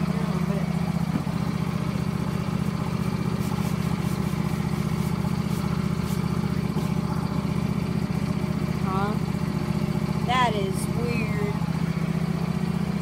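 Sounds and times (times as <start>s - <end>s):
lawn tractor engine idling: 0.0s - 13.0s.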